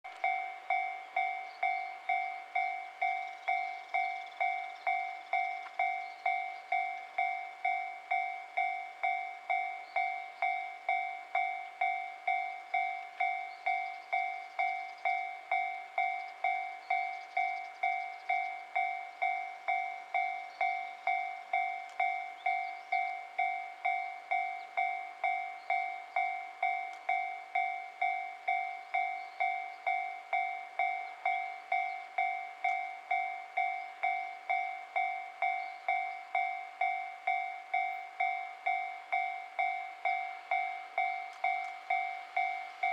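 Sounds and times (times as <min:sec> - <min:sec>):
level crossing bell ringing: 0:00.1 - 0:42.9.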